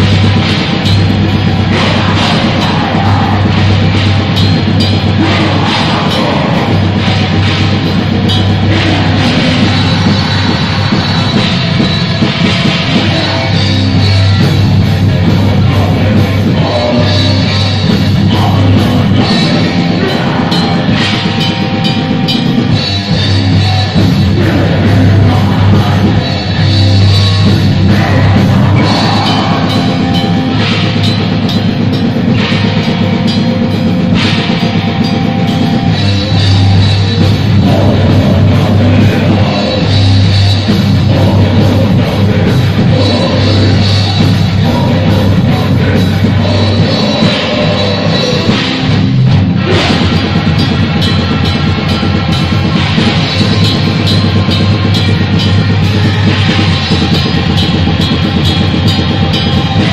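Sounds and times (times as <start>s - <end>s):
distorted electric guitar: 0.0s - 59.9s
pounding drum kit: 0.0s - 59.9s
vocals into a microphone: 0.0s - 59.9s.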